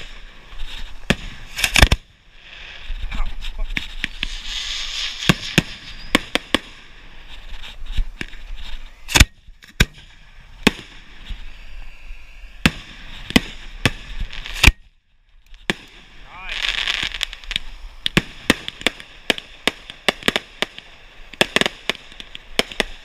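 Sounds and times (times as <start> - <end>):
firework hiss: 0.0 - 23.0
fireworks bangs: 0.0 - 23.0.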